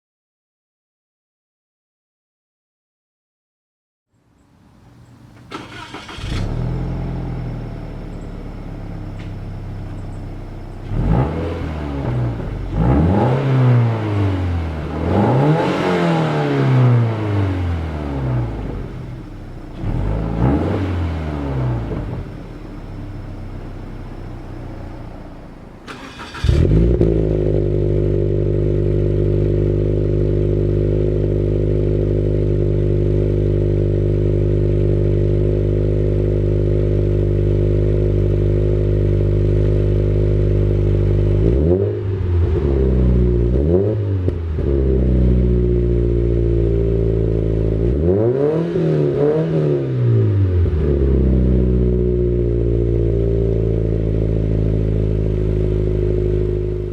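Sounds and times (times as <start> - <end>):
car engine idling and revving: 4.6 - 56.9.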